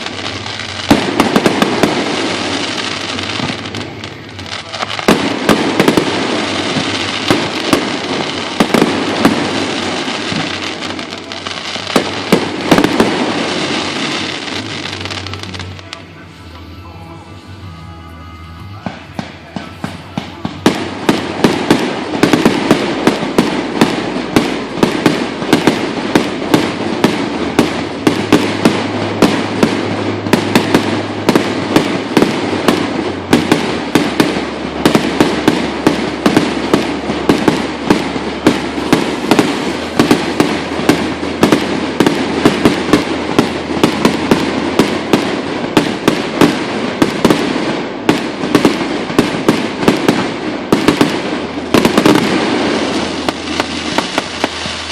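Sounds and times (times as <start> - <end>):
continuous crackle: 0.0 - 16.1, 20.2 - 54.9
fireworks bangs: 0.0 - 54.9.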